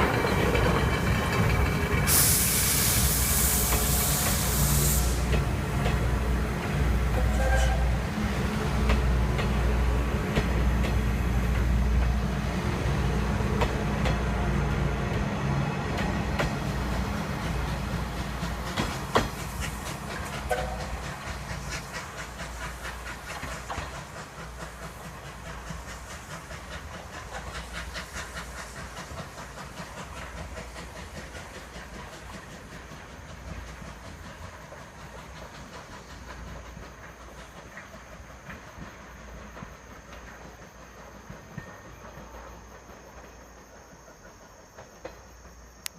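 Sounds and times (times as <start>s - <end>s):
steam hiss: 0.0s - 45.8s
train rumble: 0.0s - 45.9s
wheels clicking over rail joints: 0.0s - 45.9s.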